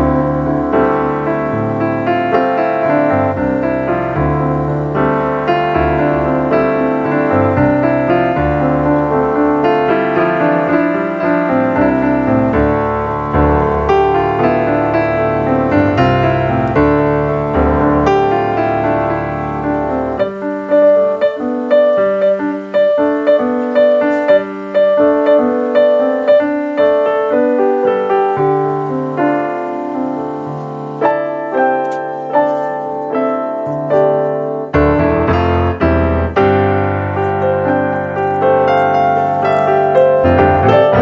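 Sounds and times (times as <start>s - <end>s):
gentle instrumental melody: 0.0s - 41.0s.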